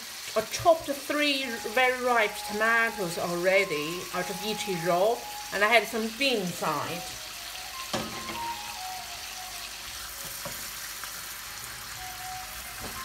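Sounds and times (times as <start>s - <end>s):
bacon sizzling in oil: 0.0s - 13.0s.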